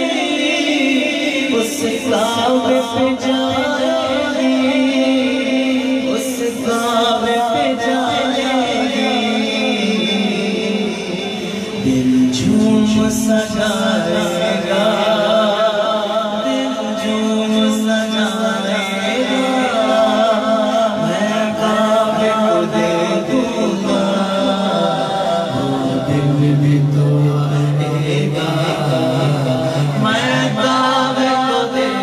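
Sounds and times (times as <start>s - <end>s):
man singing: 0.0s - 32.0s.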